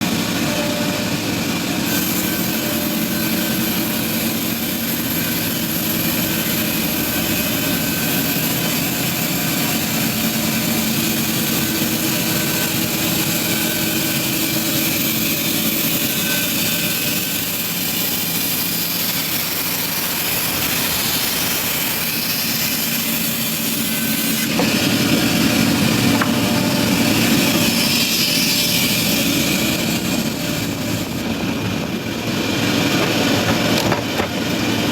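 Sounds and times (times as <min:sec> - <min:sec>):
bandsaw running: 0:00.0 - 0:34.9.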